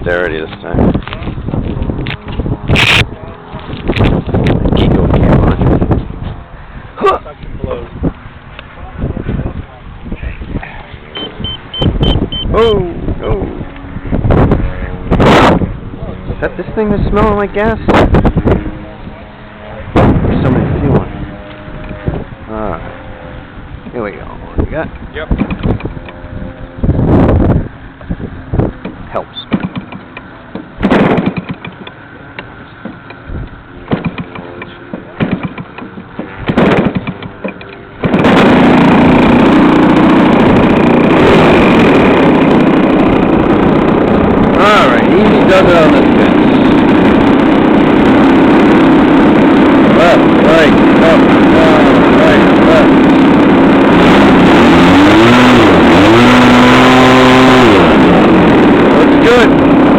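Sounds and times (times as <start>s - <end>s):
model airplane engine: 0.0s - 59.9s
wind buffeting microphone: 0.0s - 59.9s.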